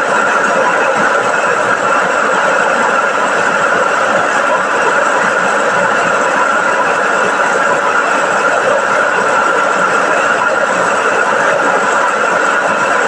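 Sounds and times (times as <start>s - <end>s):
rice milling machine running: 0.0s - 13.0s.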